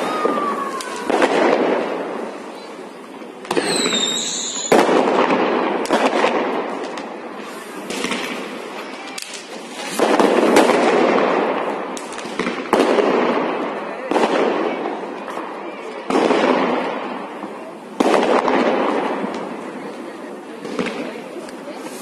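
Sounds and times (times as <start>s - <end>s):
firecrackers crackling: 0.0s - 22.0s
firework bangs: 0.0s - 22.0s.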